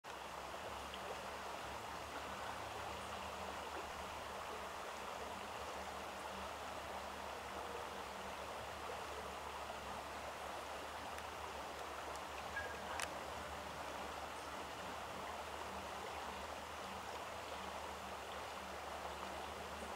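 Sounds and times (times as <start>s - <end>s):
faint steady rushing noise: 0.1s - 19.9s.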